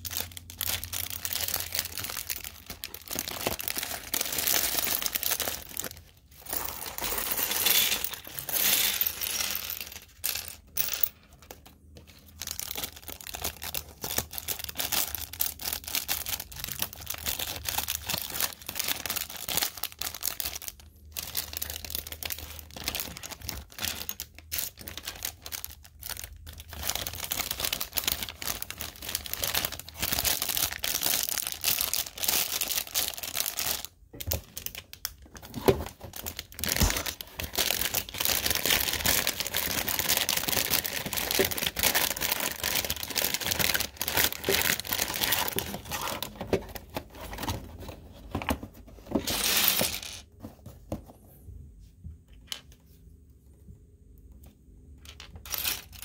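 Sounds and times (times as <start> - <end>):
plastic bags crinkling: 0.0 - 50.2
plastic pieces clattering: 0.0 - 50.3, 55.0 - 56.0.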